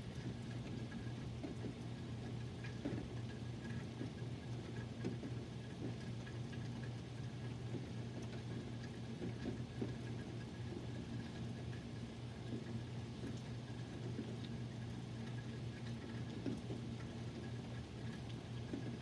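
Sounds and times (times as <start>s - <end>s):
drips ticking: 0.0s - 19.0s.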